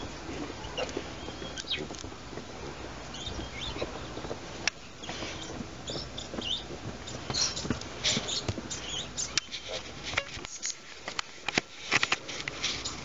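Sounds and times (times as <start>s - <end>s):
paws scraping in dirt: 0.0s - 13.0s
rustling in dry grass: 0.0s - 13.0s.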